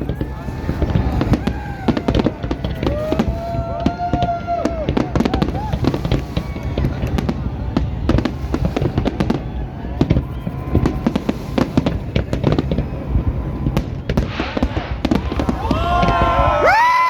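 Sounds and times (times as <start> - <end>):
fireworks exploding: 0.0 - 17.0
voices calling out: 0.0 - 17.0.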